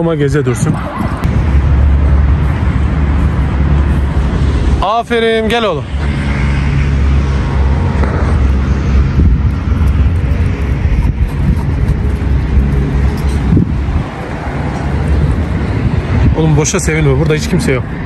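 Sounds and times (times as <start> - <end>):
vehicle engine running: 1.3 - 16.2.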